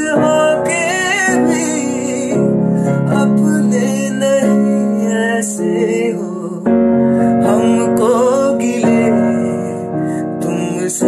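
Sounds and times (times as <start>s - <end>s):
instrumental held chords: 0.0s - 11.0s.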